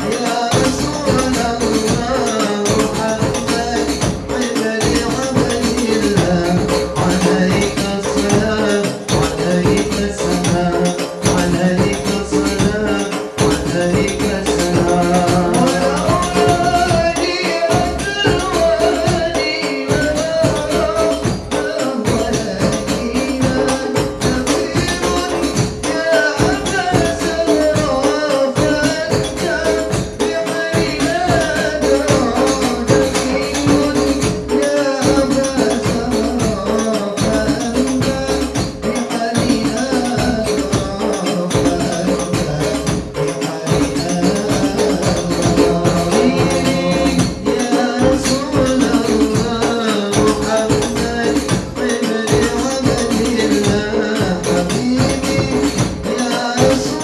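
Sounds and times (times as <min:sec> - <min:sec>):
drums with bass drum beat: 0:00.0 - 0:57.0
jingling hand percussion: 0:00.0 - 0:57.0
men singing through microphones: 0:00.0 - 0:57.0.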